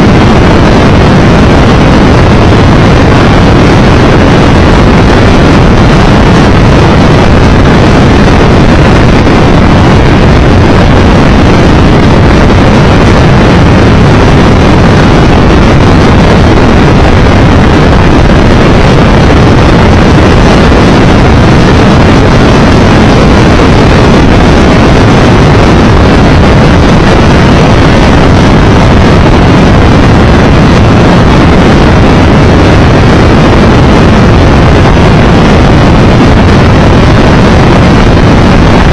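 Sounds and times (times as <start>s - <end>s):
motorcycle road noise: 0.0s - 38.9s
wind rush on microphone: 0.0s - 38.9s.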